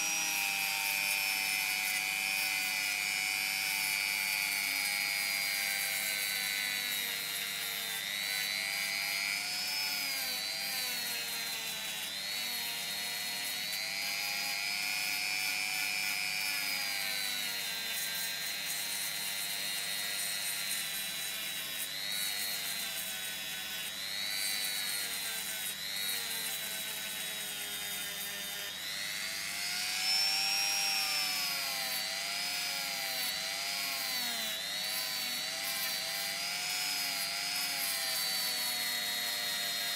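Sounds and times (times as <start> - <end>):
rotary tool sanding wood: 0.0 - 39.9.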